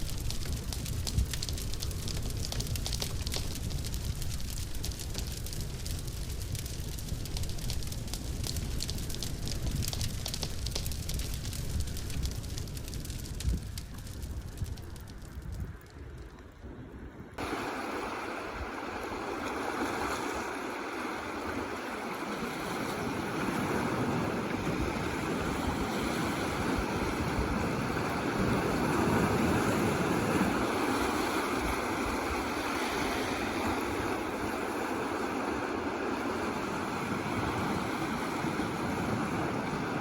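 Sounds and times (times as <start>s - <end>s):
waves washing on shore: 0.0s - 15.3s, 17.4s - 40.0s.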